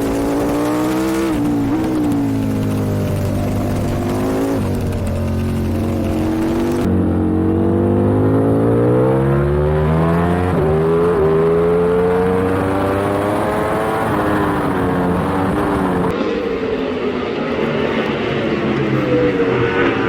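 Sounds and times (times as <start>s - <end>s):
superbike engine accelerating: 0.0s - 16.3s.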